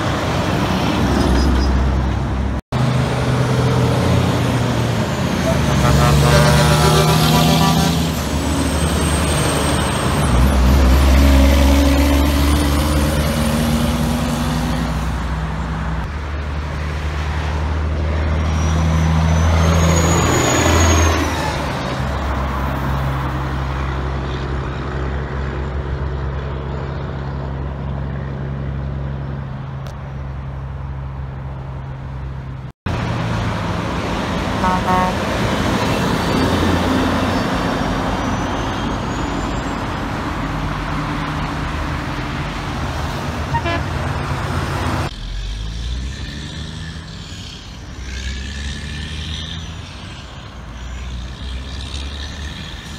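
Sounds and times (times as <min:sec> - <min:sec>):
diesel trucks passing: 0:00.0 - 0:52.9.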